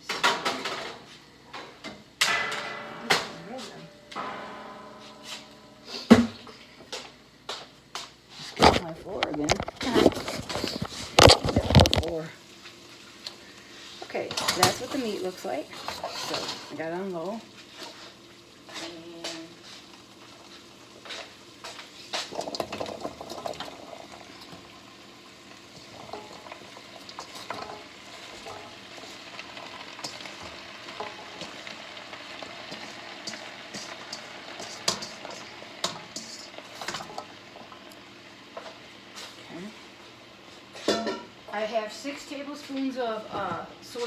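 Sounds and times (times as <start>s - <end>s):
chicken sizzling in a pan: 0.0s - 6.8s, 9.8s - 43.2s.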